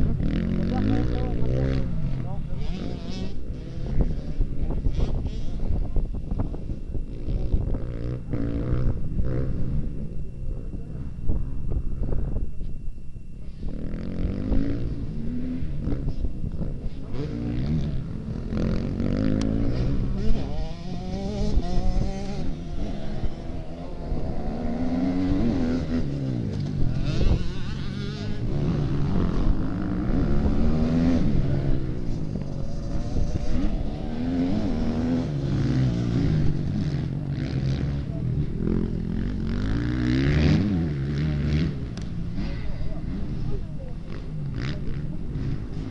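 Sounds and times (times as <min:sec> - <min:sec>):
motocross bike engines revving: 0:00.0 - 0:45.9.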